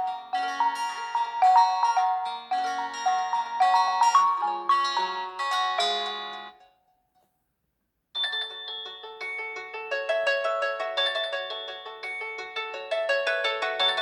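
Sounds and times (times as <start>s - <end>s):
ringtone melody: 0.0s - 6.6s, 8.2s - 14.0s.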